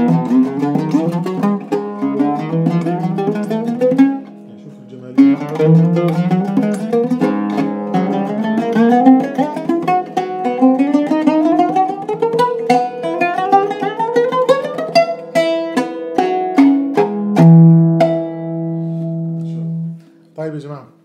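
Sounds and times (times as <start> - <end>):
oud plucked in quick runs: 0.0 - 18.6.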